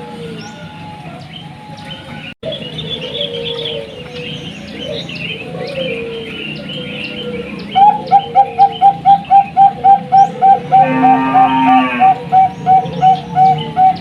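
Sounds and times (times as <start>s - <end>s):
small birds chirping: 0.3s - 11.0s, 11.7s - 14.0s
dove cooing: 2.0s - 14.0s.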